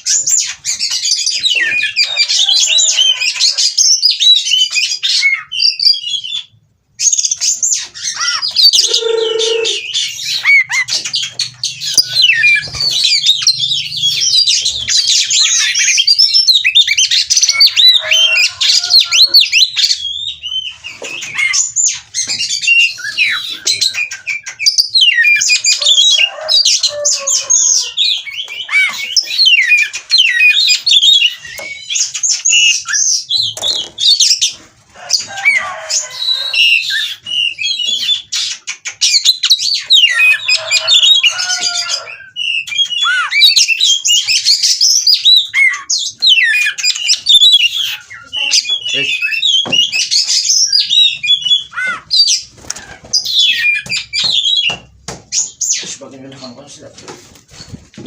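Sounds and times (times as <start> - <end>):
bird singing chirps and whistles: 3.8 - 26.2, 27.2 - 34.6, 36.2 - 41.4, 42.1 - 52.5, 53.2 - 55.9.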